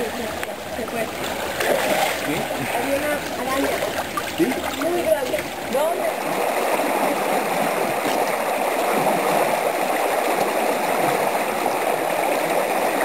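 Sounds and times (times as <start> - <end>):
stream flowing over stones: 0.0 - 13.0.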